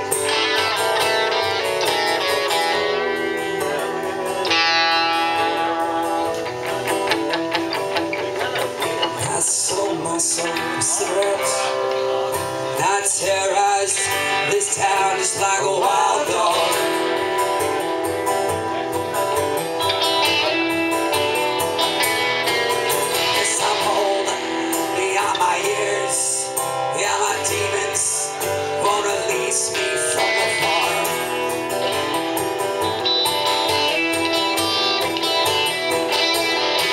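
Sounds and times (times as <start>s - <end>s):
acoustic guitar strumming: 0.0s - 36.9s
electric guitar playing: 0.0s - 36.9s.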